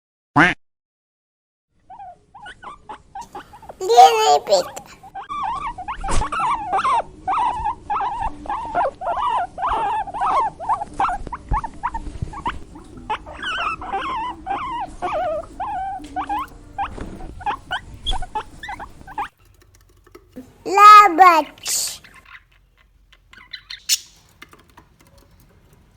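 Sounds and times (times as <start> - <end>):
guinea pigs squeaking: 1.9 - 25.8.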